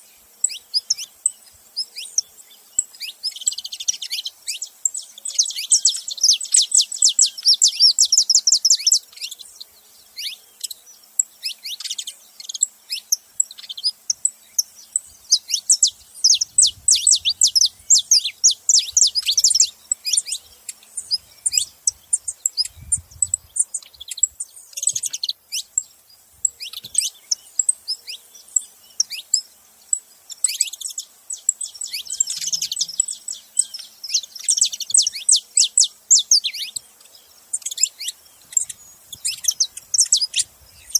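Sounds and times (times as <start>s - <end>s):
finch chirping: 0.0s - 40.9s.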